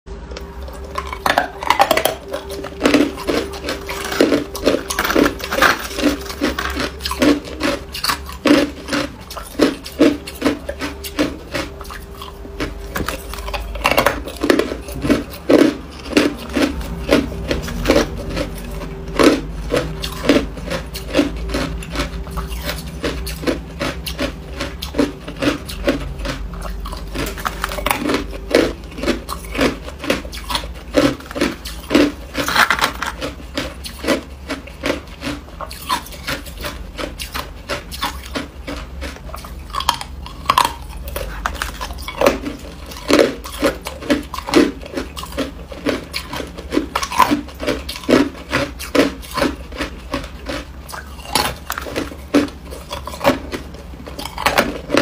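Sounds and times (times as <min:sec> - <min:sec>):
faint steady hum: 0:00.1 - 0:55.0
ice cubes crunched by teeth: 0:00.6 - 0:55.0.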